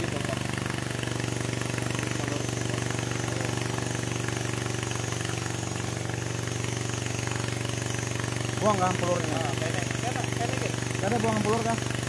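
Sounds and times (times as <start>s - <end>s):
chainsaw idling: 0.0s - 12.0s.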